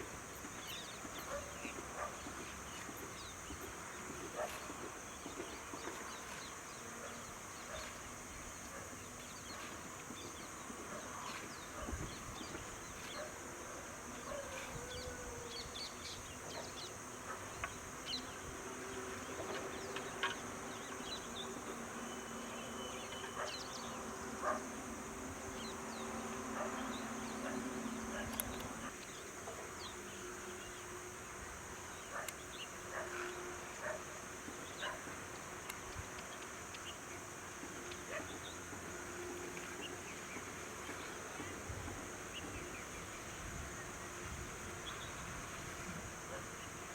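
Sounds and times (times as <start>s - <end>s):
high insect drone: 0.0s - 46.9s
low buzzing hum: 0.0s - 46.9s.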